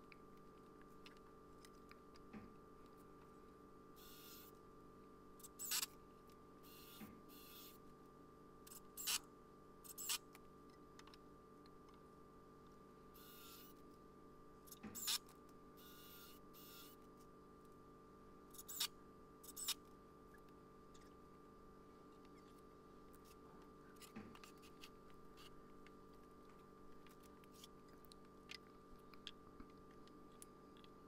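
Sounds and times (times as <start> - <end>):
faint steady background noise: 0.0 - 31.0.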